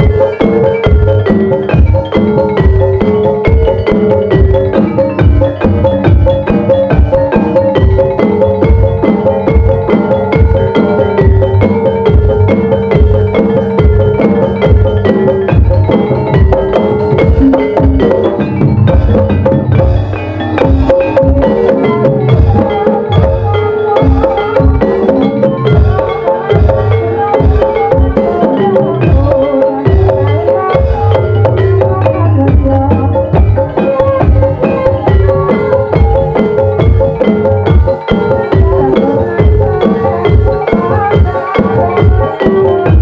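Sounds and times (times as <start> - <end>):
hand drums beating: 0.0 - 43.0
metal and wooden mallet instruments: 0.0 - 43.0.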